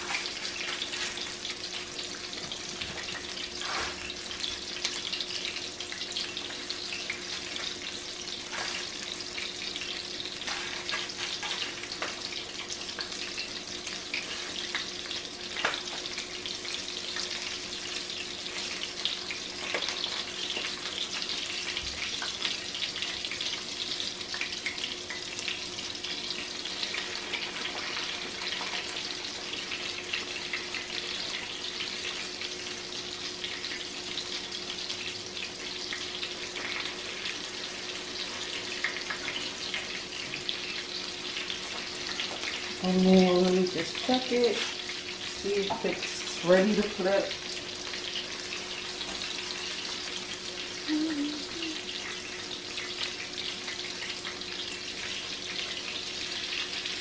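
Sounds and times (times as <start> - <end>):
fish frying in hot oil: 0.0 - 57.0.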